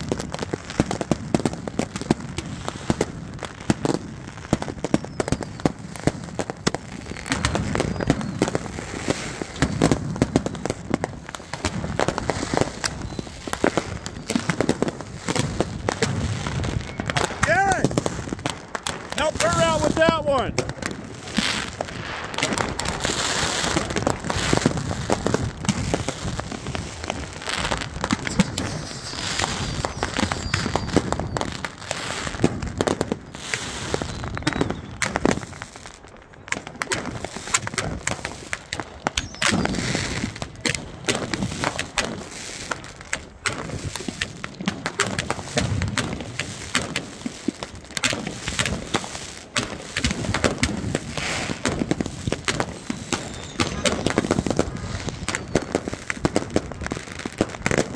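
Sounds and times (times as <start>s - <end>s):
fireworks pops and bangs: 0.0s - 57.9s.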